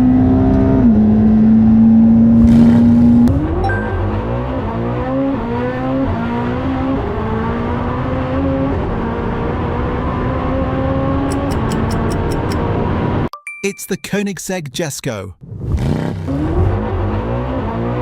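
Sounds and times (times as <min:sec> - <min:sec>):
car engine revving through upshifts: 0:00.0 - 0:13.3, 0:15.4 - 0:18.0.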